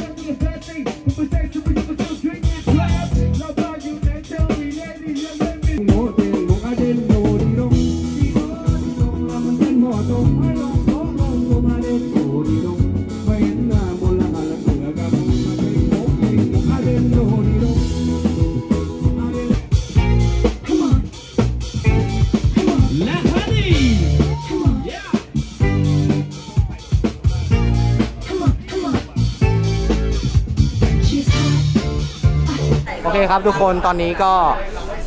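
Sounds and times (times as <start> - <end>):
person singing: 0.0 - 29.8, 30.8 - 32.9
guitar: 0.0 - 33.0
band music with drums: 0.0 - 34.0.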